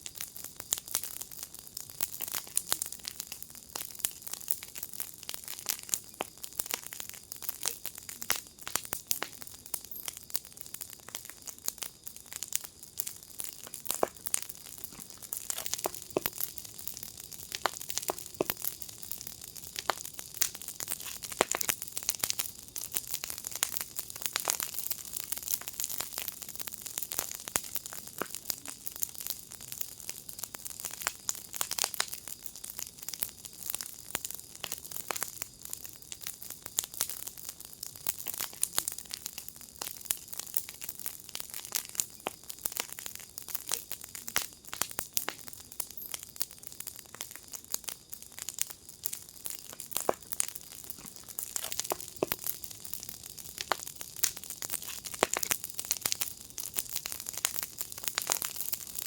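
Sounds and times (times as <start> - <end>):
soft fire hiss: 0.0 - 59.0
wood fire crackling and popping: 0.0 - 59.0.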